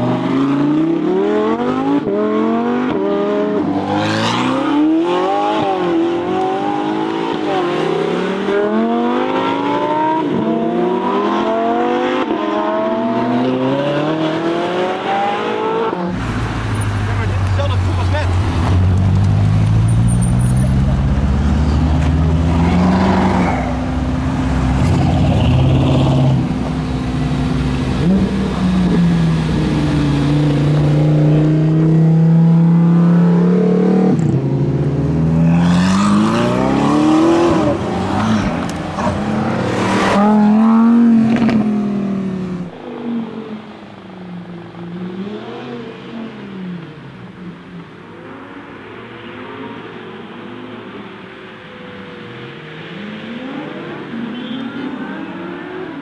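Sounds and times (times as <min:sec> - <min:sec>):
car engine revving: 0:00.0 - 0:47.8.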